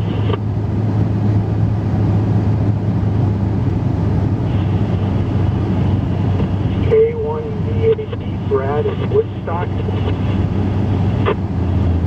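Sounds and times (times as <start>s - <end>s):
pickup truck engine drone: 0.0s - 12.0s
road noise: 0.0s - 12.0s.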